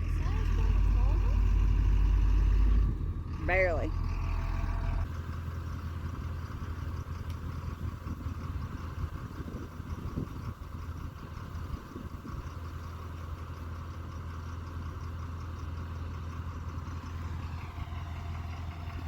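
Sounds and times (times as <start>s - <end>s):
farm vehicle engine running: 0.0s - 19.0s.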